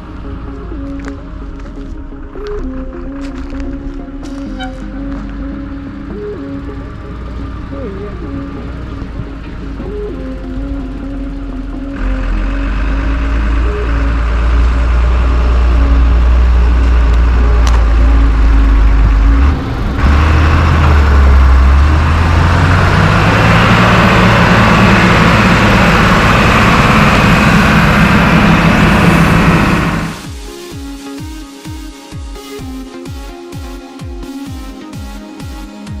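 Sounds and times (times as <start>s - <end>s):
truck diesel engine running: 0.0s - 30.5s
road noise: 0.0s - 30.6s.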